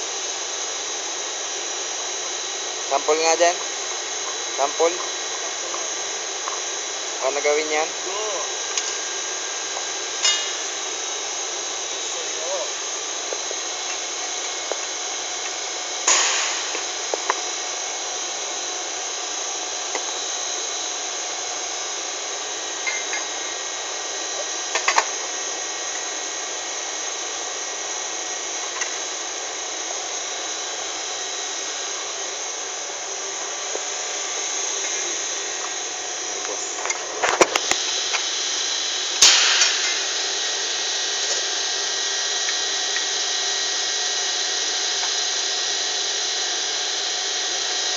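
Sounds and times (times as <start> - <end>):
factory machinery whirring: 0.0 - 47.7.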